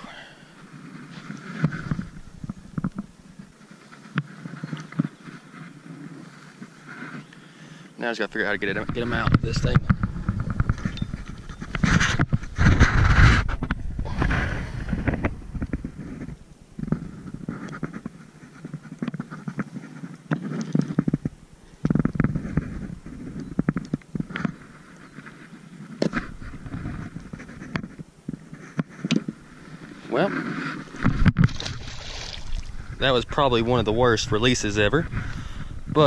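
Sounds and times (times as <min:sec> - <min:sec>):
low bumps and rubbing: 0:00.7 - 0:07.2, 0:08.3 - 0:36.0.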